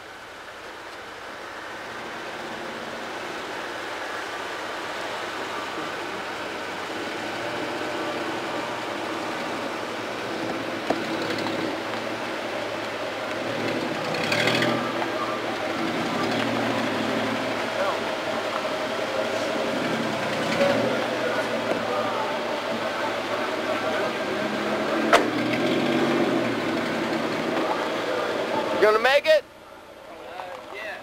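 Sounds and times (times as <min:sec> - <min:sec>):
vehicle engine running: 0:00.0 - 0:29.0
rush of noise: 0:00.0 - 0:29.4.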